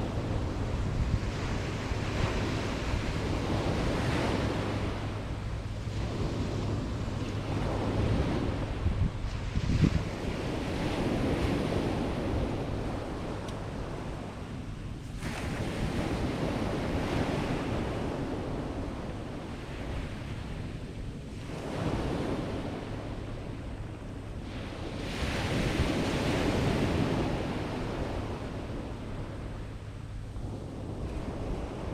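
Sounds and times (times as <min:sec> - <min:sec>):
sea waves breaking on beach: 0:00.0 - 0:29.6
wind buffeting microphone: 0:00.0 - 0:31.9.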